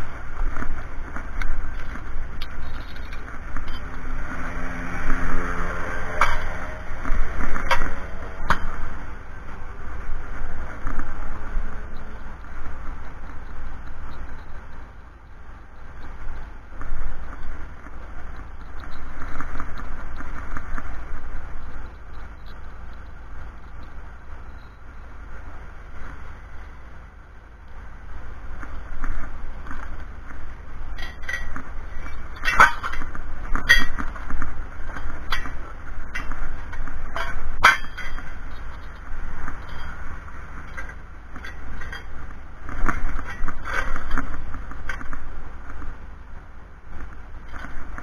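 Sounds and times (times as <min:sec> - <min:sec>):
background rumble: 0:00.0 - 0:48.0.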